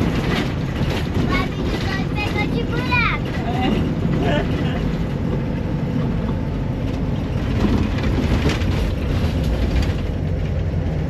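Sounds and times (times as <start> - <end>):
body clicks and rattles: 0.0 - 11.0
engine and tyres rumbling on gravel: 0.0 - 11.0.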